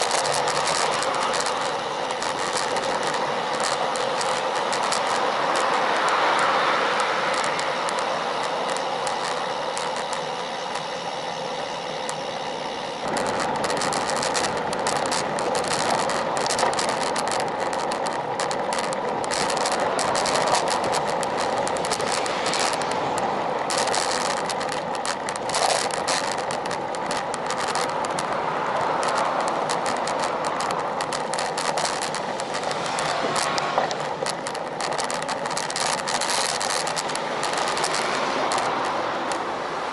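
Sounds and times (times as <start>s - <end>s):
wind and road noise rushing: 0.0s - 39.9s.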